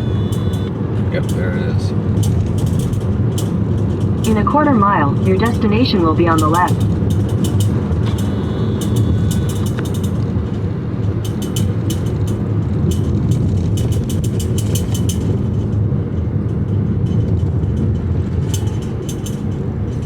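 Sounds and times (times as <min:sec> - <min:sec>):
faint clicks: 0:00.0 - 0:01.4, 0:02.2 - 0:15.9, 0:16.5 - 0:20.0
car road and engine rumble: 0:00.0 - 0:20.0.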